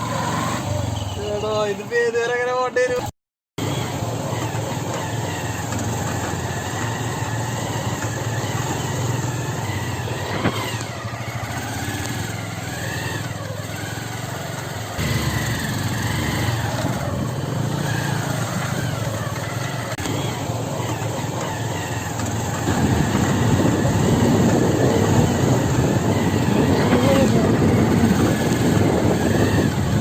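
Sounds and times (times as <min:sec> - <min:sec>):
motorcycle engine running: 0:00.0 - 0:02.1, 0:03.6 - 0:30.0.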